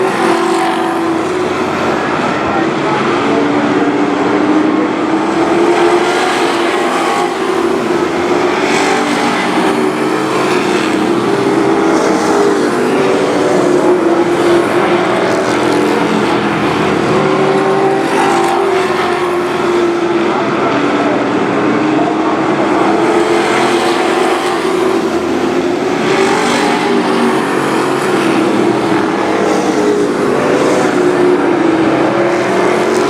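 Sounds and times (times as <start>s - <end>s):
race truck engines: 0.0s - 33.0s.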